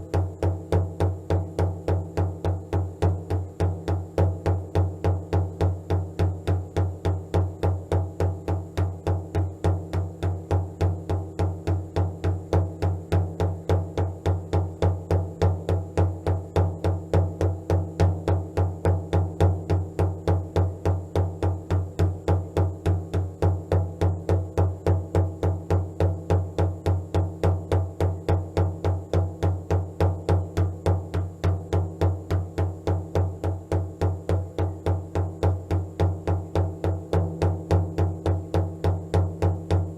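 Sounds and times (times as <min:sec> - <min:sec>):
low drum beating fast: 0:00.0 - 0:39.9.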